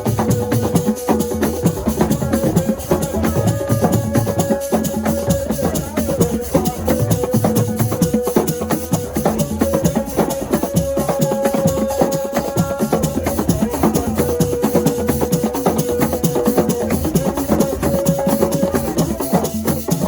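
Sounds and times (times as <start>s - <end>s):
fast dense drumming: 0.0s - 20.0s
shaker strikes: 0.0s - 20.0s.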